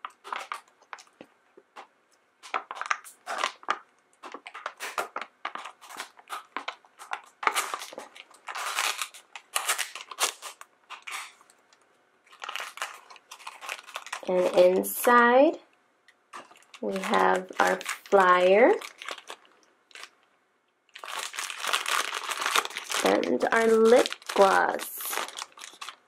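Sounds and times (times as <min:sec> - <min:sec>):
plastic packaging crinkling and tearing: 0:00.0 - 0:15.4, 0:16.3 - 0:20.3, 0:20.9 - 0:26.0.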